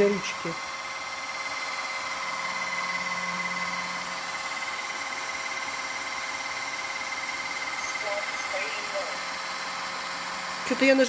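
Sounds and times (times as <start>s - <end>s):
floor washer motor whine: 0.0s - 11.0s
low hum: 0.0s - 11.0s.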